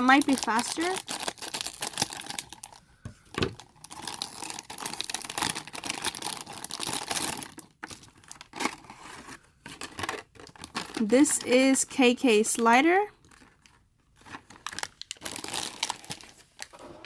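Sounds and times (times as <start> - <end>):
packaging tearing and crinkling: 0.0 - 2.8, 3.4 - 11.5, 13.2 - 16.8.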